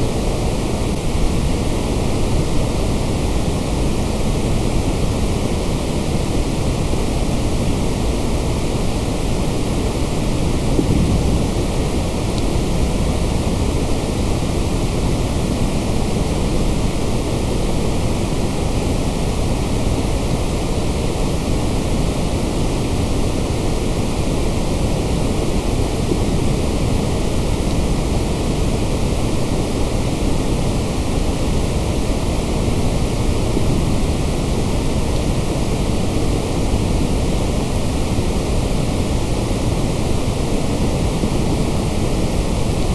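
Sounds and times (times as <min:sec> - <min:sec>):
white noise hiss: 0:00.0 - 0:42.9.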